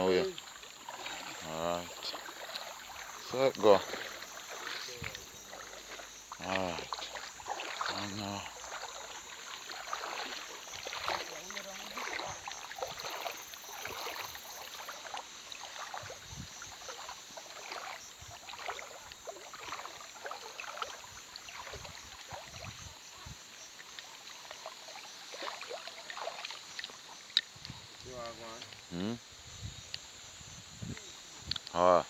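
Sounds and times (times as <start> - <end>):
river water splashing: 0.0 - 32.0
steady watery hiss: 0.0 - 32.0.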